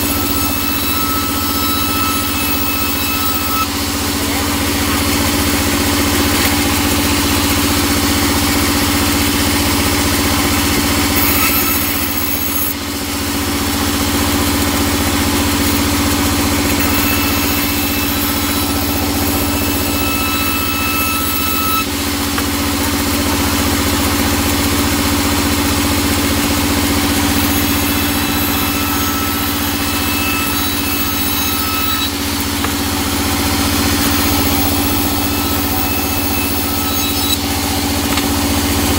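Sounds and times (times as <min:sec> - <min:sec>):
band saw machine drone: 0:00.0 - 0:38.9
thin saw whine: 0:00.0 - 0:38.9.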